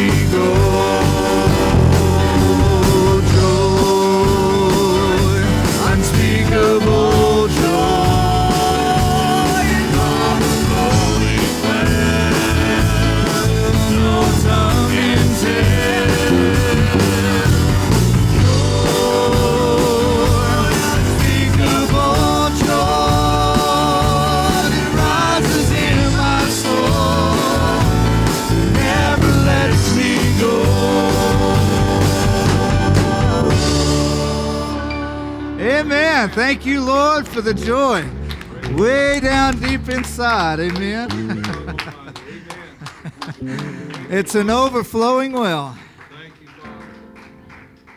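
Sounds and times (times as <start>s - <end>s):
person singing: 0.0s - 40.0s
rock praise song by band: 0.0s - 46.0s.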